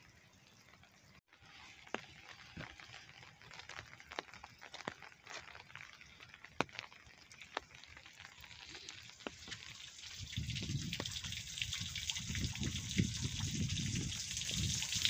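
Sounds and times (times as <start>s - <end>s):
light rain on wet pavement: 0.1s - 15.0s.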